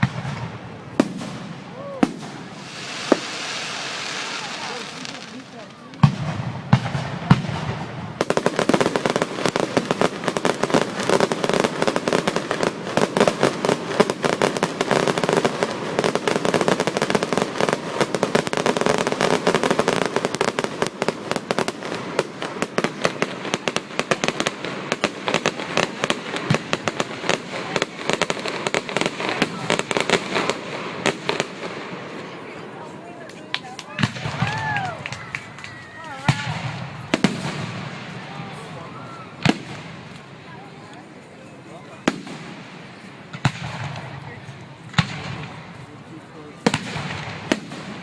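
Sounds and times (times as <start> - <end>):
fireworks bangs: 0.0 - 41.0, 41.8 - 48.0
fireworks crackling pops: 0.0 - 41.3, 41.9 - 48.0.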